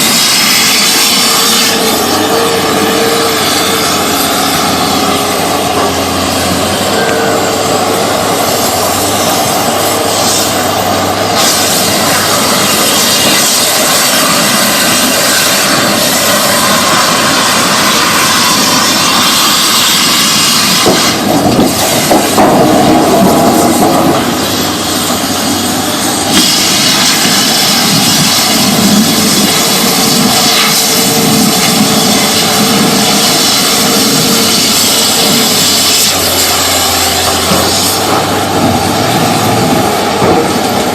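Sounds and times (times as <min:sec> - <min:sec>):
cutting torch hissing: 0:00.0 - 0:40.9.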